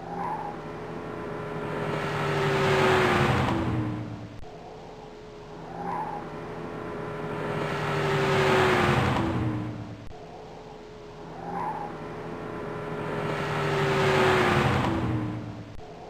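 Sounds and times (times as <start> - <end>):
car driving past: 0.0 - 4.4, 5.8 - 10.1, 11.4 - 15.8.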